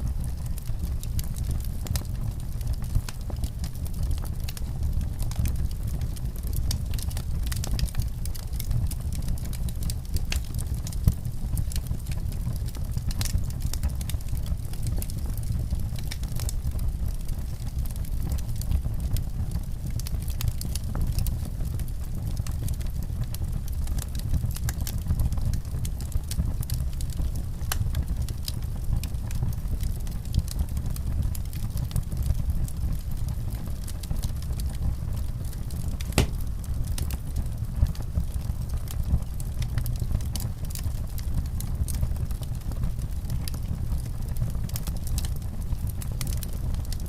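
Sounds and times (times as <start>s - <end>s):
fire crackling pops and snaps: 0.0s - 47.0s
fire low rumble: 0.0s - 47.0s.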